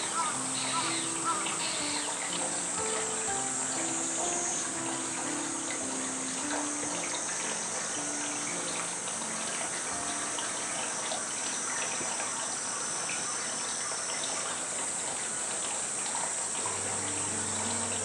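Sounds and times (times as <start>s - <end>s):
high hiss: 0.0s - 18.0s
low steady tones: 0.0s - 18.0s
running water rushing: 0.0s - 18.0s.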